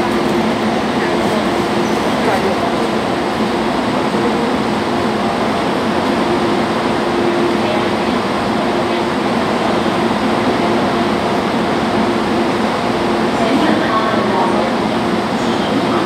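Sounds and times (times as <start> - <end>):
train carriage rumble: 0.0 - 16.0.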